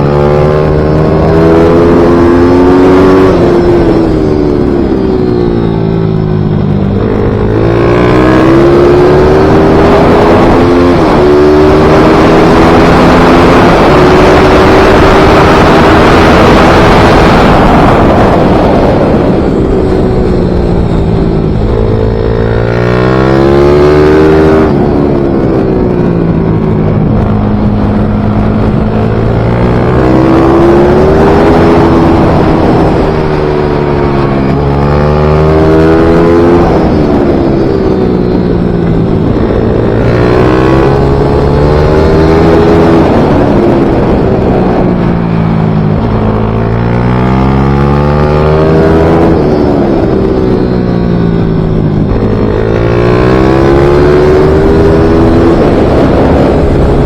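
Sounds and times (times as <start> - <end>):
racing motorcycle engine: 0.0 - 57.0.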